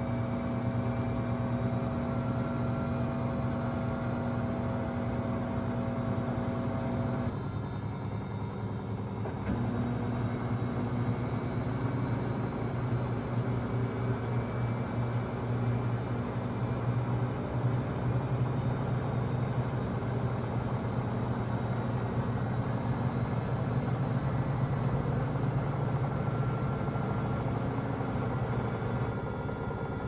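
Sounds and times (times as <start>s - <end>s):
washing machine buzzing: 0.0s - 8.1s, 8.8s - 30.0s.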